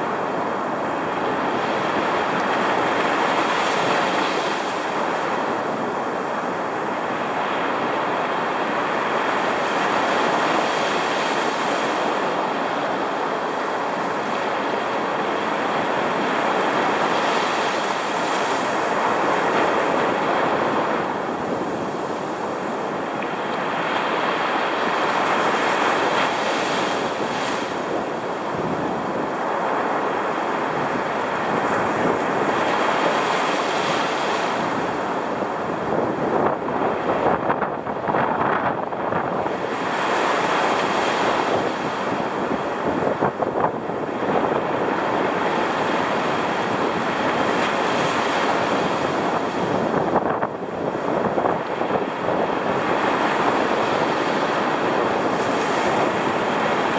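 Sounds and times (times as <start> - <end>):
surf breaking on sand: 0.0 - 56.9.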